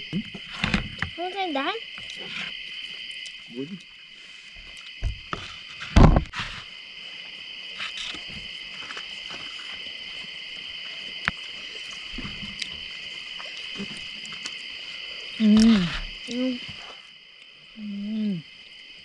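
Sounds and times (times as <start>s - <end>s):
crickets chirping chorus: 0.0s - 19.0s.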